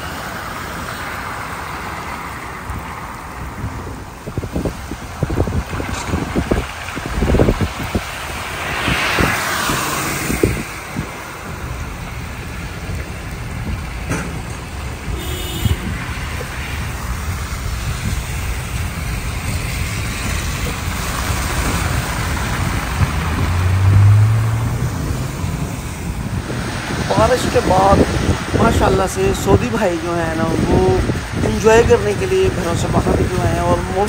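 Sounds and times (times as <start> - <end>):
water hissing: 0.0 - 31.4
tyre and road noise: 0.0 - 34.0
water spray rushing: 0.0 - 34.0.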